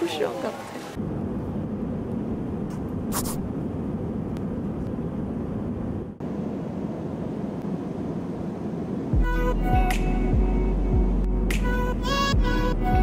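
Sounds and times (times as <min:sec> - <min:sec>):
airliner cabin drone: 0:00.8 - 0:13.0.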